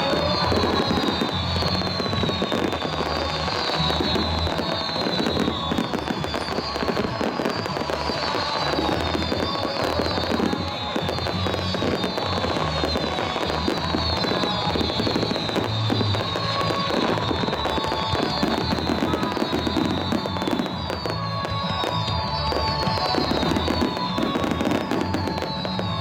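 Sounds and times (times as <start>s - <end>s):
fireworks crackling and popping: 0.0s - 26.0s
music playing: 0.0s - 26.0s.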